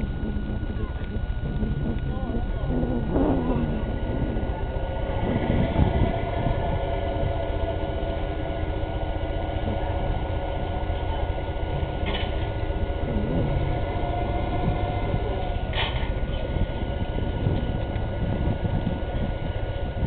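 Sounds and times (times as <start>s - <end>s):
boat diesel engine rumbling: 0.0s - 20.0s.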